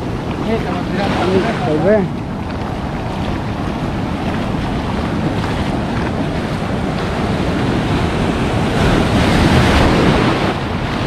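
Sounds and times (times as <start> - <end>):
surf rushing around legs: 0.0 - 11.0
wind buffeting microphone: 0.0 - 11.0.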